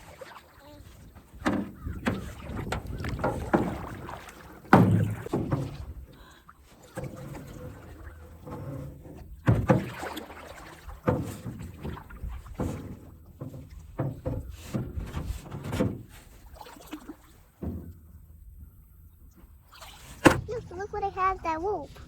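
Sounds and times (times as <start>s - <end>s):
paddle knocking against canoe: 0.0s - 20.6s
paddle strokes in water: 0.0s - 20.6s.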